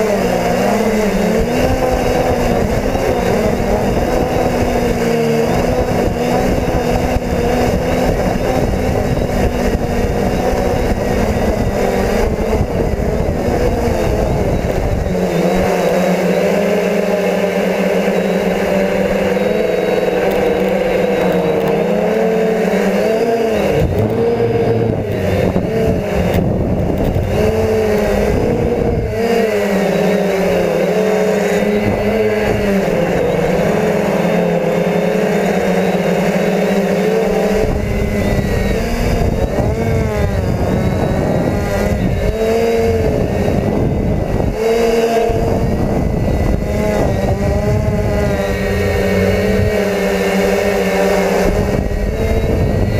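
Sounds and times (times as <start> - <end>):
quadcopter motors whining: 0.0 - 52.9
wind rumbling on microphone: 0.0 - 52.9.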